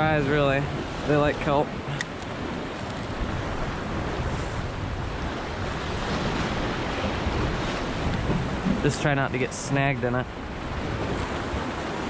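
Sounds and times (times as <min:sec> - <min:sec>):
surf washing over rocks: 0:00.0 - 0:12.0
wind buffeting microphone: 0:00.0 - 0:12.0.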